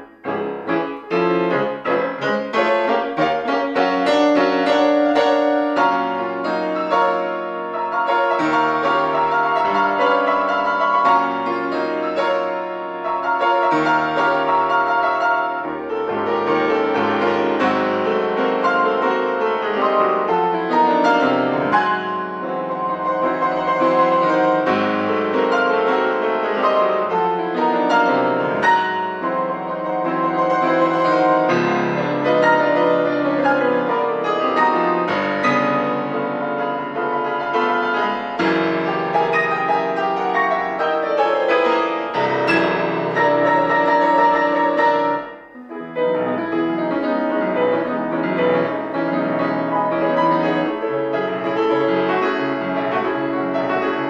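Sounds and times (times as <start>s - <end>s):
classical piano sonata: 0.0s - 54.0s.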